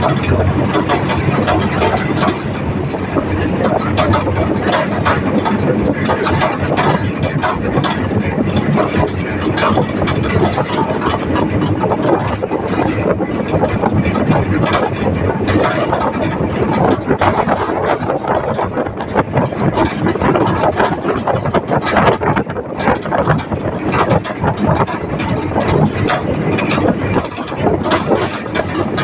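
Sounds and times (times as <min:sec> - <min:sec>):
tractor engine rattling: 0:00.0 - 0:29.0
wind on microphone: 0:00.0 - 0:29.0.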